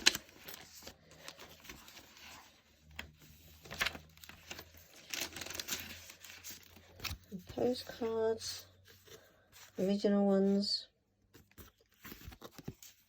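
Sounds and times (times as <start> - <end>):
paper pages rustling: 0.0 - 8.2, 8.8 - 13.0.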